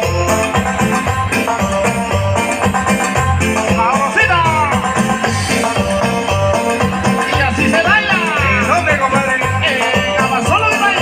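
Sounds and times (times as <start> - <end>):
latin band dance music: 0.0 - 11.0
sliding melodic line: 0.0 - 11.0.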